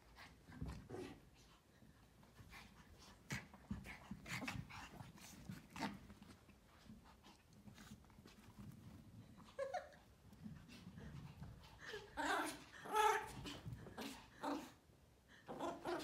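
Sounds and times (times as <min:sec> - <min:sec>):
puppies scuffling and panting: 0:00.0 - 0:14.4.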